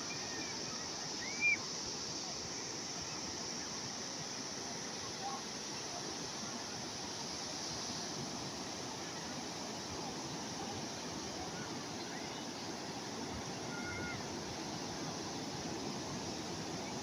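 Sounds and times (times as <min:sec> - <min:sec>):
calm sea waves: 0:00.0 - 0:17.0.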